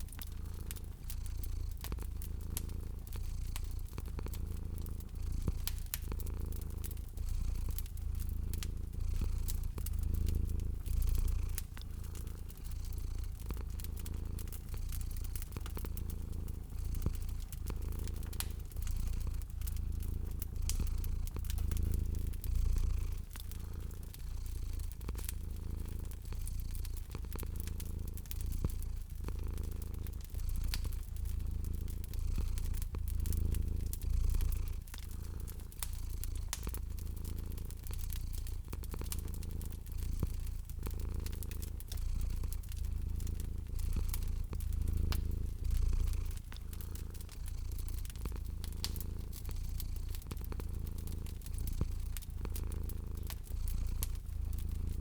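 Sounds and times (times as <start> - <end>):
cat purring: 0.0 - 55.0
wood fire popping and crackling: 0.0 - 55.0.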